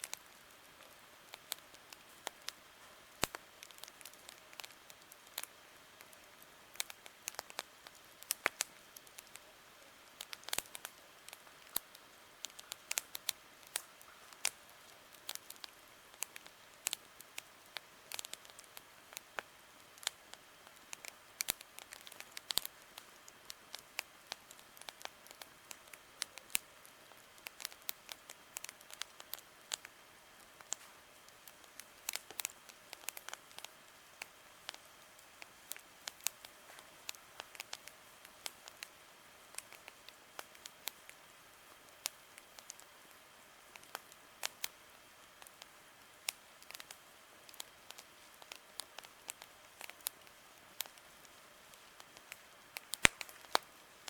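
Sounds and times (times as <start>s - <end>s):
campfire crackling and popping: 0.0s - 54.0s
faint steady hiss: 0.0s - 54.0s.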